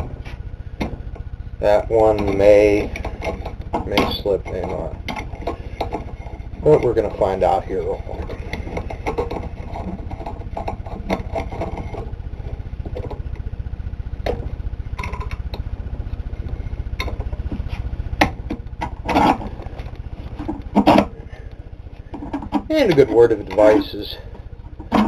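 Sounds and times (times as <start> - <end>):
metal rattle: 0.0 - 13.5, 14.2 - 25.0
steady low hum: 0.0 - 25.0.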